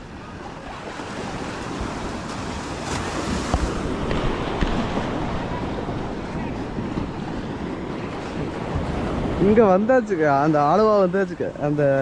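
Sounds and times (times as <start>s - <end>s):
sea surf washing onto beach: 0.0s - 12.0s
wind buffeting microphone: 0.0s - 12.0s.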